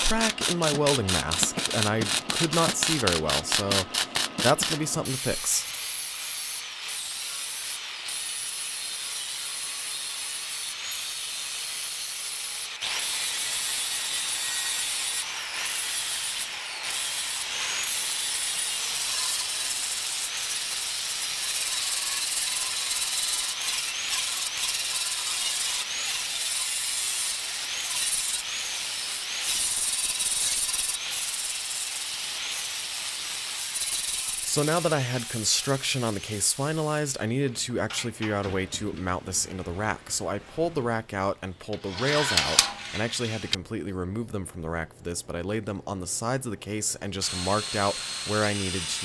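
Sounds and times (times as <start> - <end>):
angle grinder grinding steel: 0.0 - 39.8, 41.6 - 43.6, 47.2 - 49.0.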